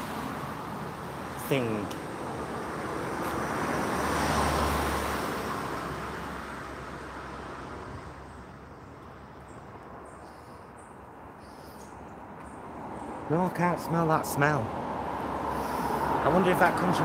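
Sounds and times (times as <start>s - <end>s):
car passing by: 0.0s - 9.3s, 12.6s - 17.0s.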